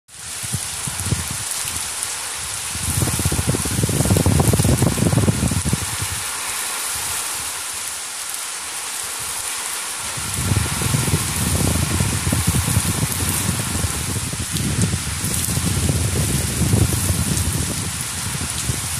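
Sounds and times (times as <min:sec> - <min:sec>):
heavy rain on rooftops: 0:00.1 - 0:18.9.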